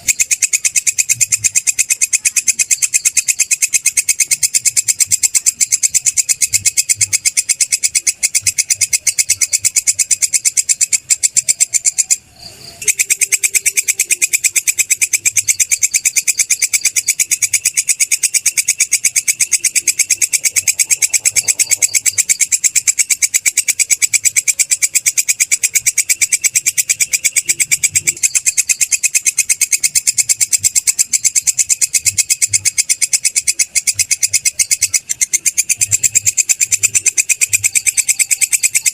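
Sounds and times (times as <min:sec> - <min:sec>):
katydid high-pitched pulsing trill: 0:00.0 - 0:38.9.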